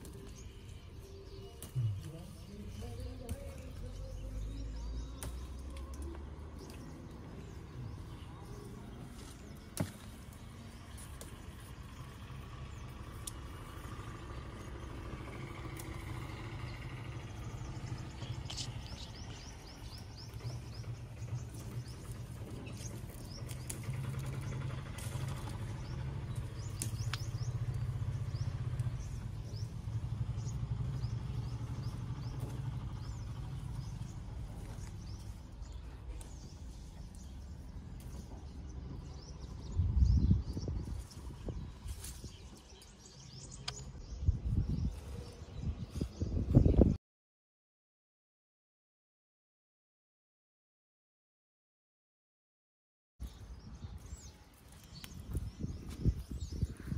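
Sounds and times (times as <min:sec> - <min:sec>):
birds chirping: 0:00.0 - 0:47.0, 0:53.2 - 0:56.9.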